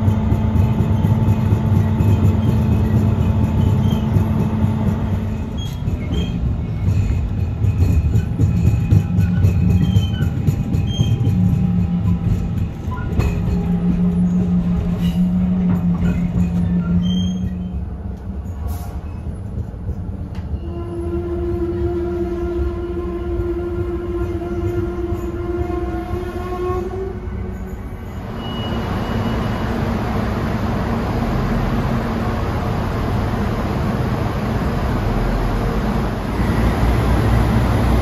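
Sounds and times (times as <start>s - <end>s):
railbus engine humming: 0.0s - 38.0s.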